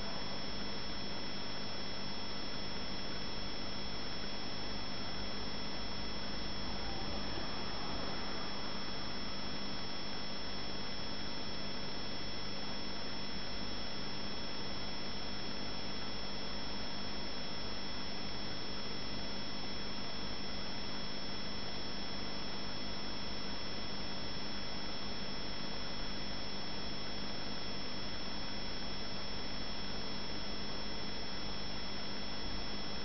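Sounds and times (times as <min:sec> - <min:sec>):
steady hum: 0:00.0 - 0:29.4.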